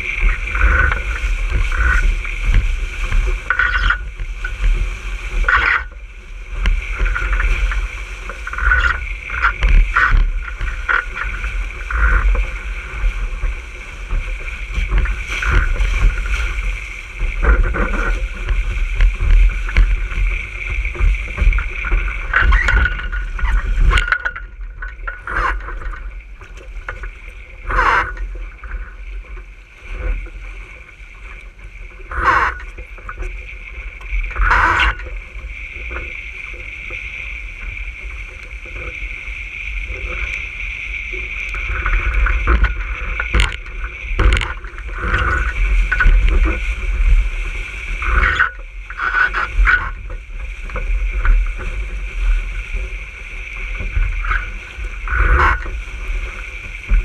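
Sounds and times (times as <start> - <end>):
water rushing along a hull: 0.0 - 57.0
wind buffeting microphone: 0.0 - 57.0.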